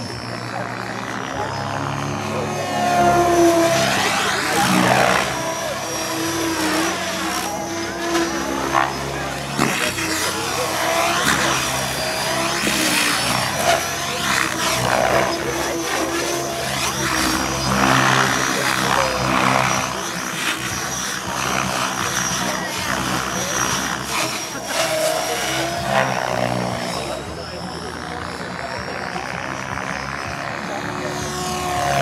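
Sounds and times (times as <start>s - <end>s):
electric motor whining: 0.0s - 32.0s
helicopter rotor blades swooshing: 0.0s - 32.0s.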